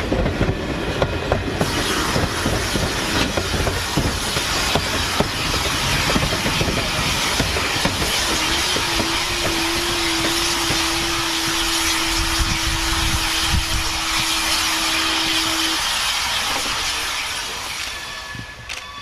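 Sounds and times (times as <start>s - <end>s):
steam train rolling past: 0.0s - 19.0s.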